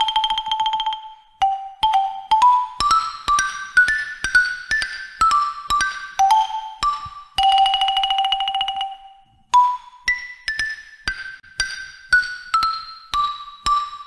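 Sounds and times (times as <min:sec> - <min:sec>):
xylophone notes: 0:00.0 - 0:14.0.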